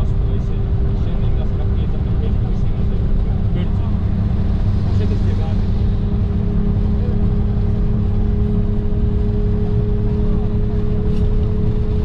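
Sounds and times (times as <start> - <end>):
minibus engine and road rumble: 0.0 - 12.0
steady hum: 0.0 - 12.0.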